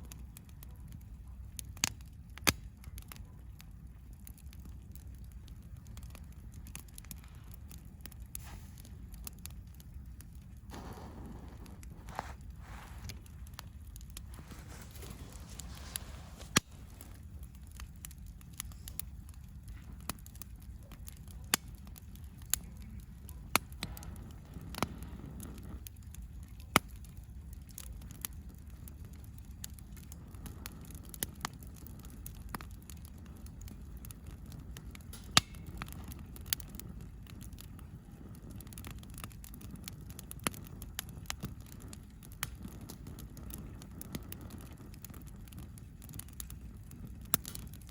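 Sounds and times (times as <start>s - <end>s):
campfire crackling and popping: 0.0s - 47.9s
low steady rumble: 0.0s - 47.9s.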